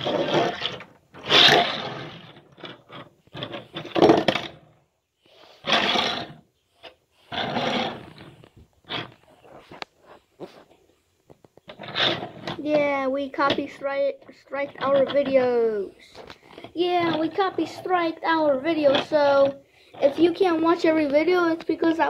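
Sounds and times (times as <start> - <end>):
toy cars pushed across table: 0.0 - 9.8, 11.6 - 20.9.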